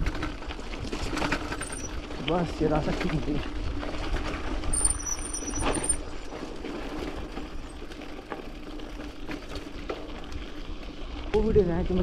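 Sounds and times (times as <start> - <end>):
bike rattling: 0.0 - 12.0
bike tyres crunching over stones: 0.0 - 12.0.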